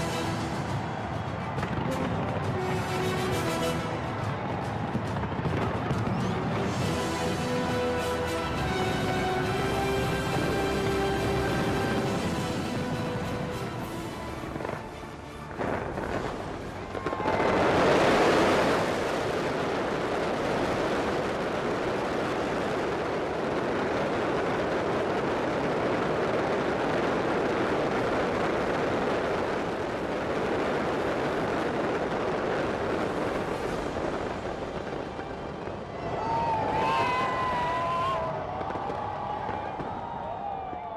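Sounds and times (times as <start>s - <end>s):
fireworks crackling bangs: 0.0s - 40.9s.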